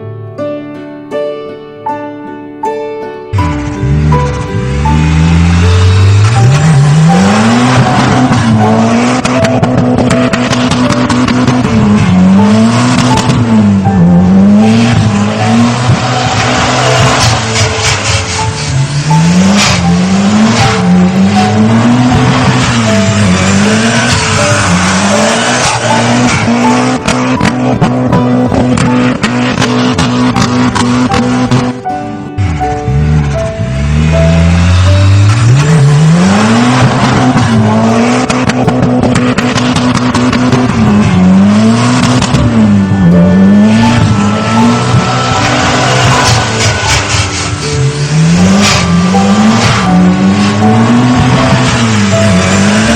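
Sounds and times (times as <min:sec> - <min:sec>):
background music: 0:00.0 - 0:52.9
cartoon vehicle engine revving: 0:03.4 - 0:52.9.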